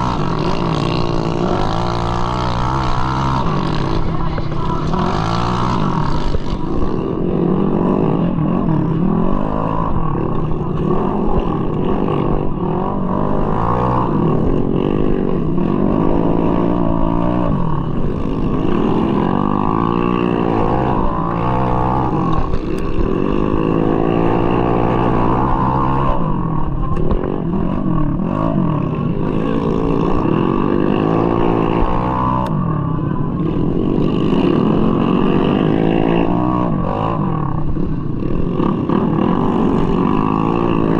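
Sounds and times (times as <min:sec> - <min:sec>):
scooter engine revving: 0:00.0 - 0:40.9.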